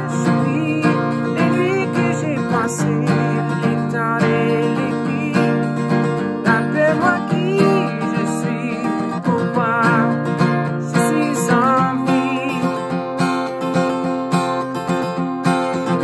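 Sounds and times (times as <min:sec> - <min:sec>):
man singing: 0:00.0 - 0:13.1
acoustic guitar strumming: 0:00.0 - 0:16.0.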